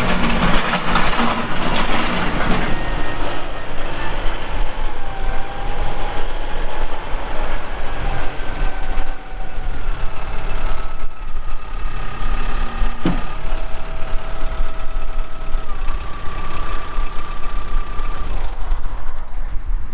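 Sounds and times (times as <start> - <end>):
engine whine shifting pitch: 0.0 - 19.9
tractor diesel engine running: 0.0 - 19.9.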